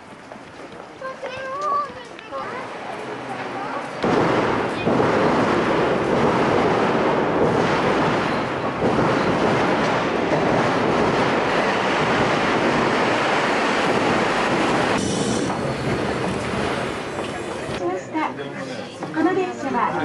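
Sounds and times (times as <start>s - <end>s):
streetcar wheels and motors rumbling: 0.0s - 18.2s.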